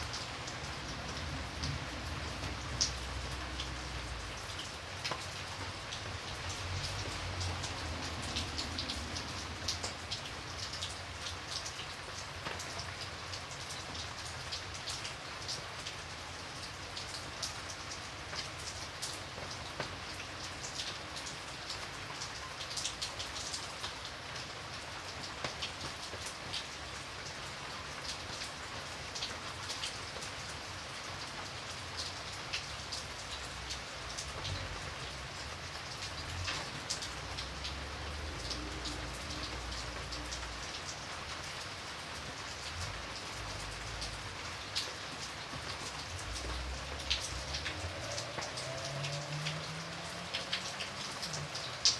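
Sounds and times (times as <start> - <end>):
rain on a window: 0.0 - 51.9.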